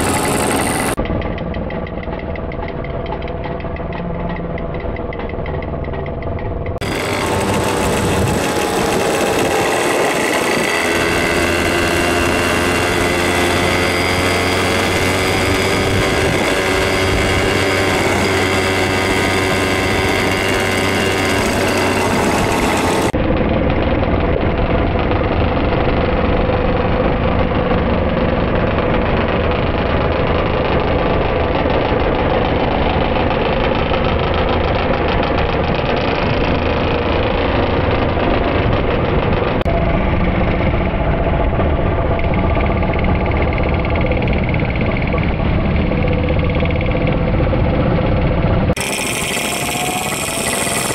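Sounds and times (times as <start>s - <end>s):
two-stroke moped engines: 0.0s - 50.9s.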